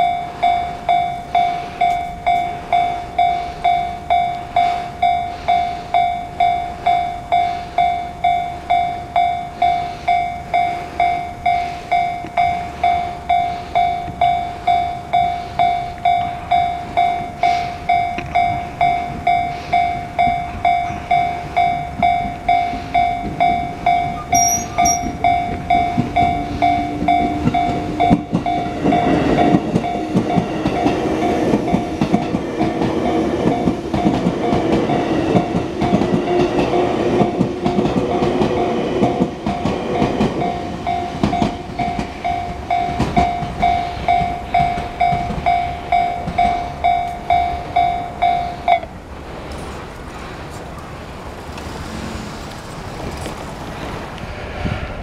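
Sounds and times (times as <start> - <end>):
level crossing alarm dinging: 0.0 - 48.9
train passing on rails: 0.0 - 55.0.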